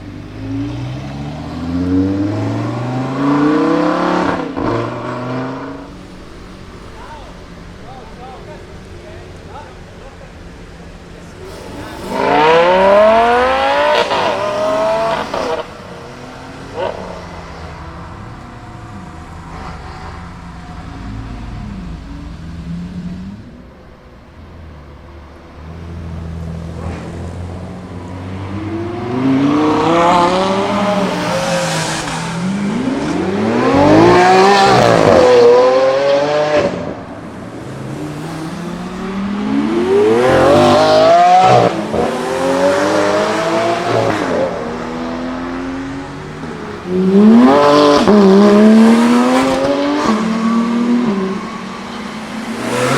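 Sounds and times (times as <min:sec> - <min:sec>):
sports car engines revving: 0:00.0 - 0:52.9.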